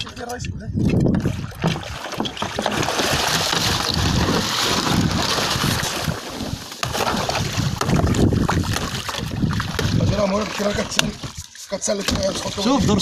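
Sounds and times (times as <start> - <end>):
wind buffeting microphone: 0.0 - 11.4, 12.1 - 13.0
water splashing against boat: 0.0 - 13.0.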